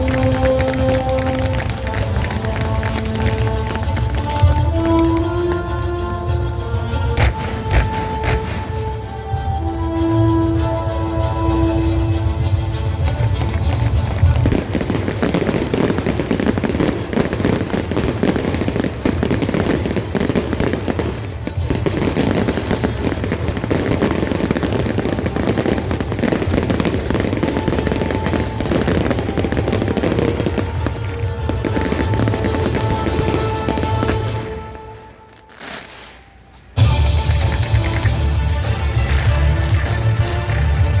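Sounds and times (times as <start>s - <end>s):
fireworks bangs and crackles: 0.0s - 9.4s, 12.3s - 41.0s
music playing: 0.0s - 41.0s.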